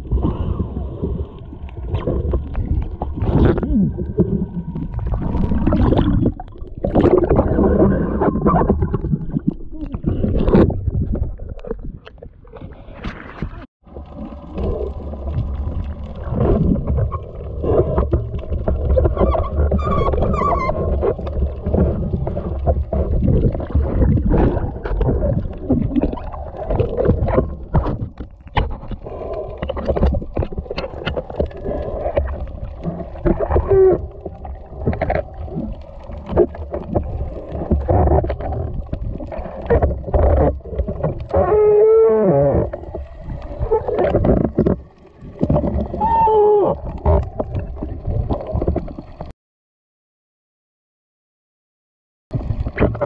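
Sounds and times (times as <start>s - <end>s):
low underwater rumble: 0.0s - 49.3s
muffled underwater clicks and knocks: 1.9s - 41.6s, 42.2s - 46.0s, 46.7s - 49.3s, 52.3s - 53.0s.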